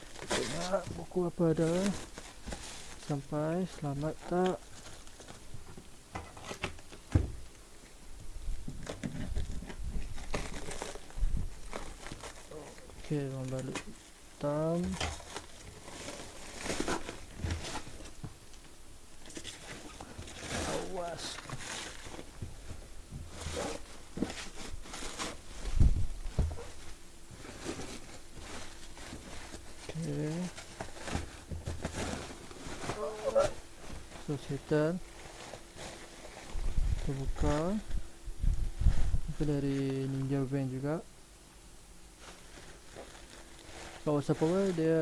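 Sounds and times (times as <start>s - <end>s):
parcel rustling: 0.0s - 7.1s, 8.8s - 40.2s, 42.1s - 45.0s.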